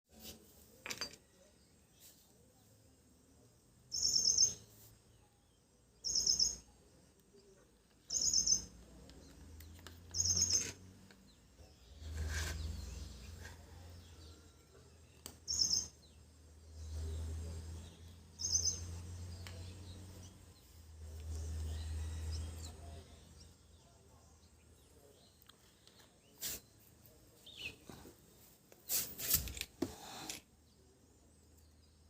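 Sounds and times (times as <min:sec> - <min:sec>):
bird chirping: 0:01.2 - 0:28.4.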